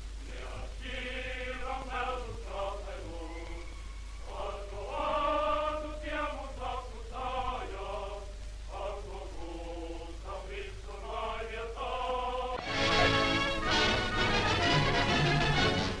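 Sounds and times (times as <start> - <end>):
choir singing long notes: 0.0 - 16.0
steady low hum: 0.0 - 16.0.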